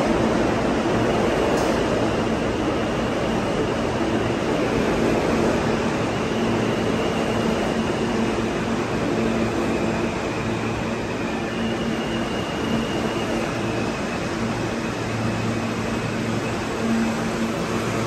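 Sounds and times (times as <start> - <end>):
train wheels rumbling on rail: 0.0 - 18.0
faint high whine: 0.4 - 18.0.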